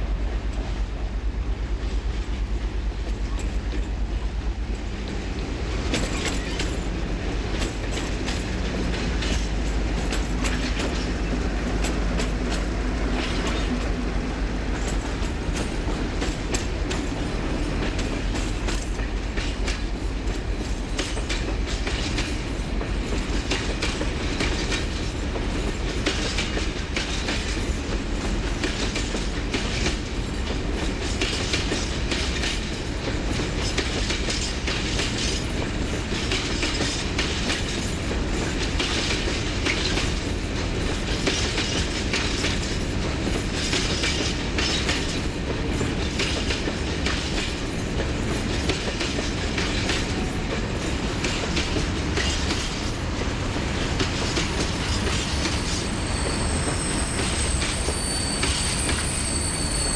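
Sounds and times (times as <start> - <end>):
freight train rumbling: 0.0 - 59.9
wheels clicking over rail joints: 4.8 - 59.9.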